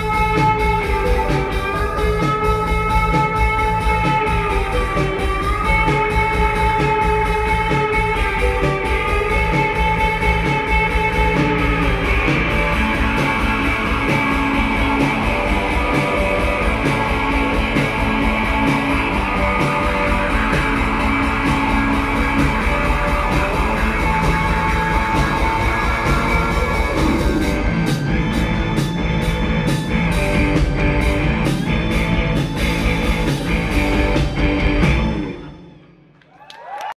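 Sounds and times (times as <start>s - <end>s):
live rock band playing: 0.0s - 36.1s.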